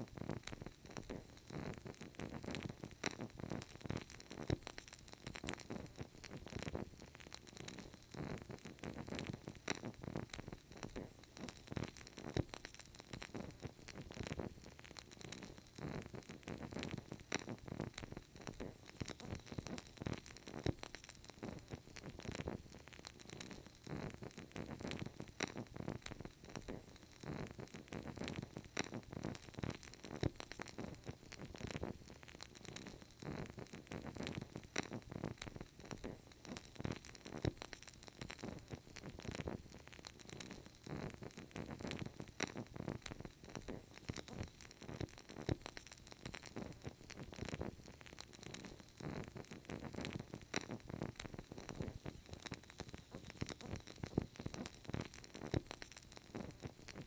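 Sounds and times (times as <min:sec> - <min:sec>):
candle crackling: 0:00.0 - 0:57.0
soft hiss: 0:00.0 - 0:57.0.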